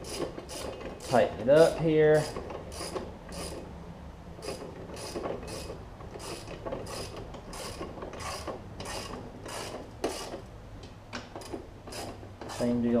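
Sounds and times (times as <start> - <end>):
ratchet wrench clicking: 0.0 - 3.6, 4.4 - 10.4, 11.4 - 12.7.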